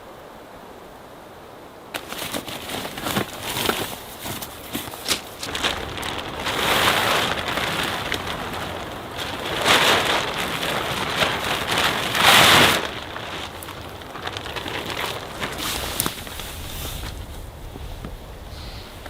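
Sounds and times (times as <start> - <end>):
rain falling: 1.9 - 19.0.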